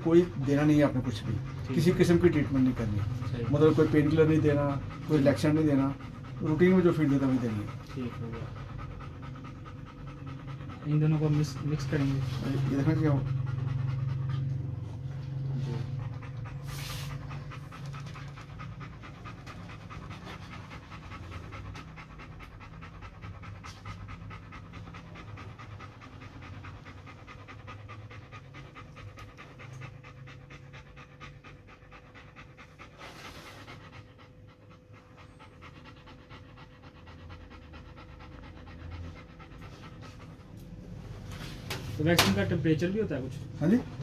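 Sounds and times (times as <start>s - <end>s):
dog panting: 0.0s - 44.0s.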